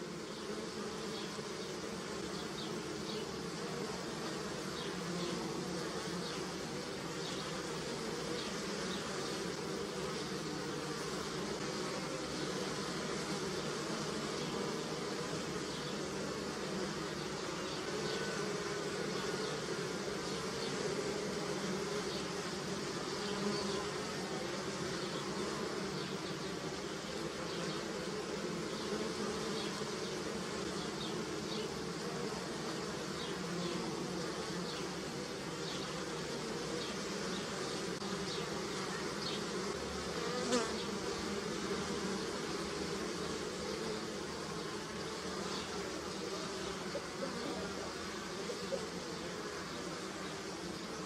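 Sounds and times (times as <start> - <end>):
honeybees buzzing: 0.0 - 51.0.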